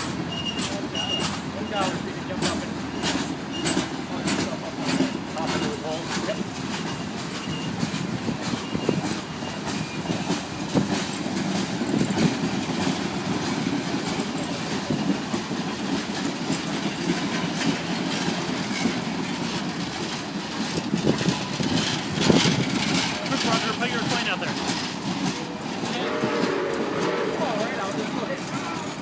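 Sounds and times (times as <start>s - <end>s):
train rumbling past: 0.0s - 29.0s
wheels clicking over rail joints: 0.0s - 29.0s.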